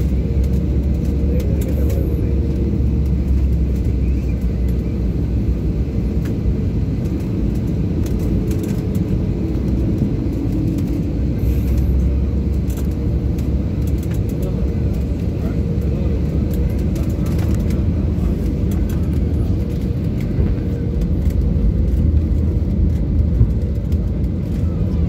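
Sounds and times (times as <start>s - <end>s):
jet engines and rushing air: 0.0s - 25.0s.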